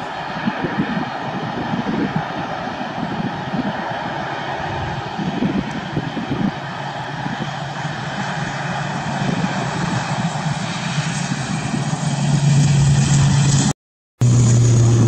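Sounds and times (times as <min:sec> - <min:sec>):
propeller drone: 0:00.0 - 0:15.0
rushing engine noise: 0:00.0 - 0:15.0.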